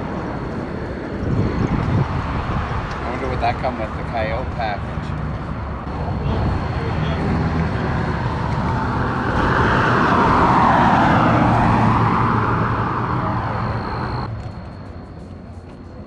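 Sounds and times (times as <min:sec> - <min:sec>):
vehicle passing by: 0:00.0 - 0:14.4.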